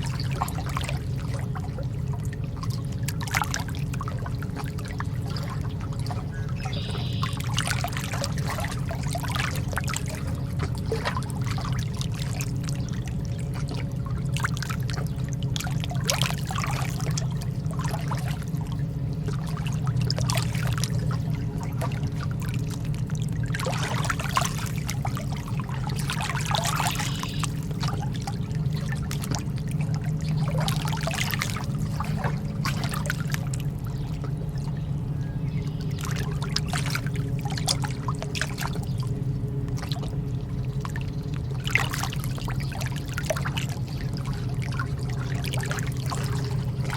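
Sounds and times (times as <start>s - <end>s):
low hum: 0.0s - 46.9s
sea water lapping gently: 0.0s - 46.9s.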